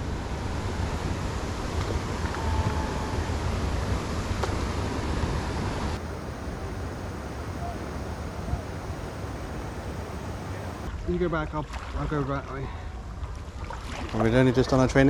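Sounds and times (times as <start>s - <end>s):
moving water: 0.0s - 15.0s
wind buffeting microphone: 0.0s - 15.0s.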